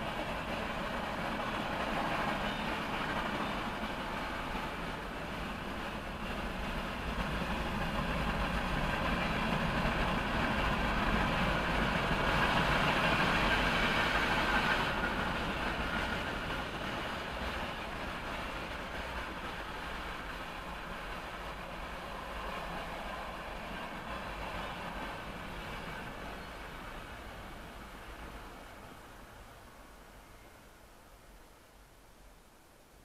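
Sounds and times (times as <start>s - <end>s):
train wheels on rails: 0.0s - 31.6s.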